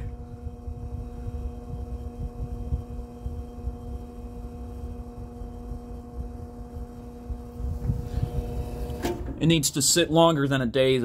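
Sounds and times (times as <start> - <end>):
box fan humming: 0.0 - 11.0.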